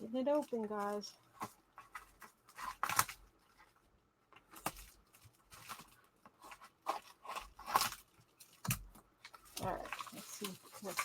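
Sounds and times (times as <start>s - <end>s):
packaging rustling and tearing: 0.3s - 11.0s.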